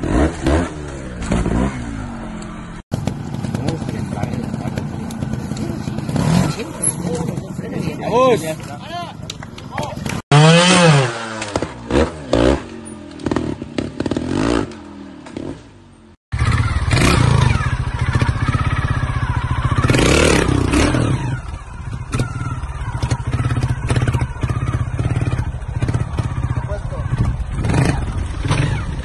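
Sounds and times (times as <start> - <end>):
motorcycle engine revving: 0.0 - 8.8, 10.0 - 29.0.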